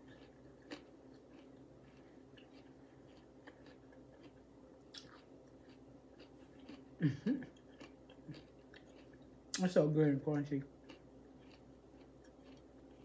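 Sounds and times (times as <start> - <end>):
person chewing crispy food: 0.0 - 9.7, 10.5 - 13.0.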